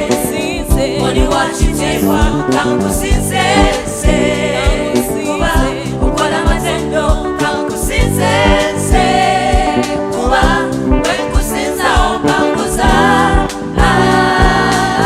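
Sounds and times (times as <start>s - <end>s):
drums and bass beat: 0.0s - 15.0s
voices singing gospel song: 0.0s - 15.0s.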